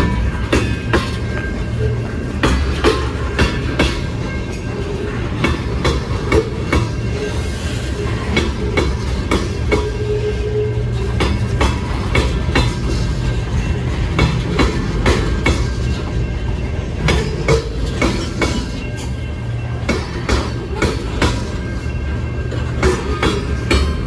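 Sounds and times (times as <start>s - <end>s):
steel wheels rumbling: 0.0s - 24.0s.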